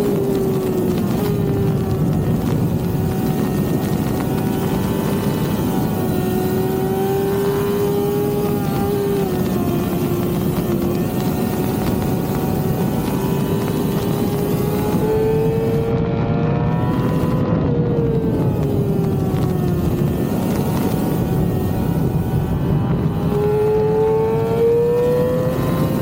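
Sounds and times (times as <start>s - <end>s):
motorcycle engine high revs: 0.0s - 26.0s.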